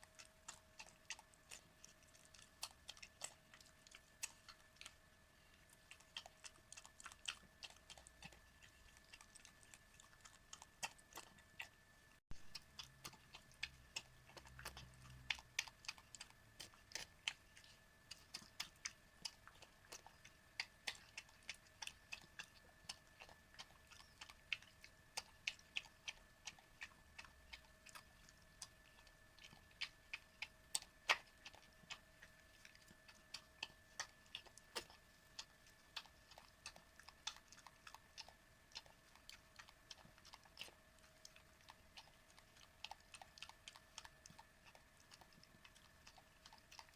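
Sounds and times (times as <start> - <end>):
dog lapping and chewing: 0.0 - 46.9
faint high hum: 0.0 - 46.9.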